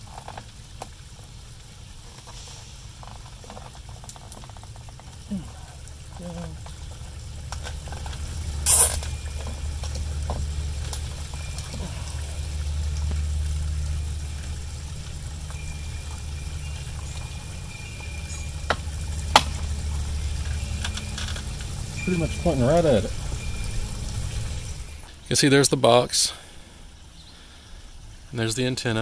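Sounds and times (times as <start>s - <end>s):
steady low rumble: 0.6s - 29.0s.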